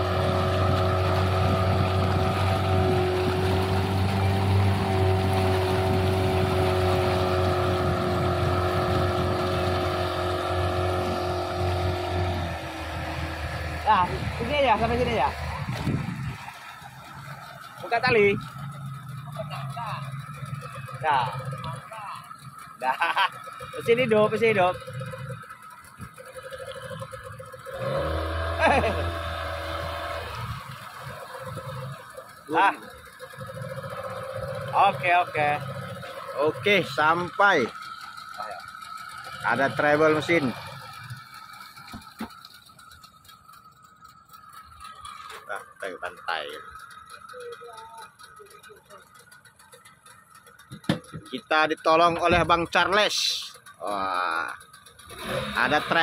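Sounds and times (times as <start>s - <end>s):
water rushing past hull: 0.0s - 47.4s
outboard motor running: 0.0s - 56.0s.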